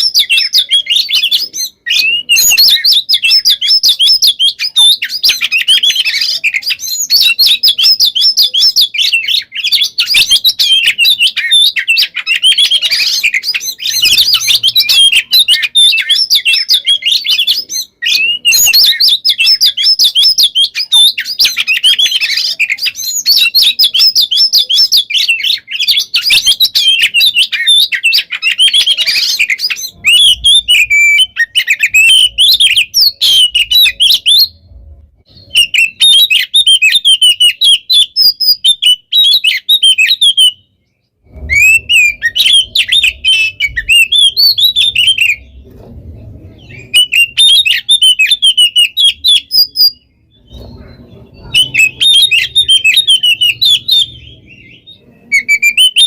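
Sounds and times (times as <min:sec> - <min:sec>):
bird singing whistles and trills: 0:00.0 - 0:56.0.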